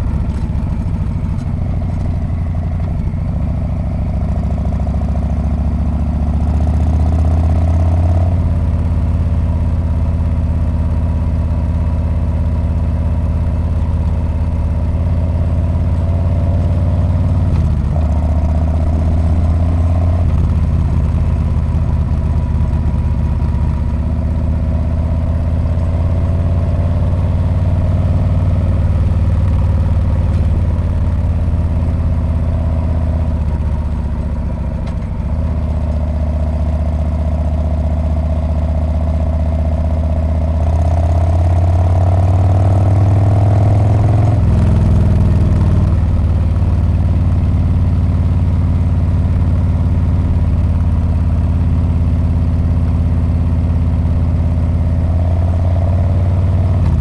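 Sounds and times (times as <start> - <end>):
motorcycle exhaust: 0.0 - 57.0.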